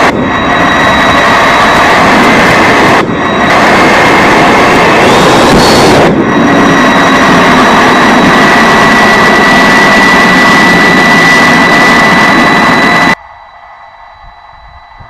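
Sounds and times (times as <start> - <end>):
model jet rush and whine: 0.0 - 15.0.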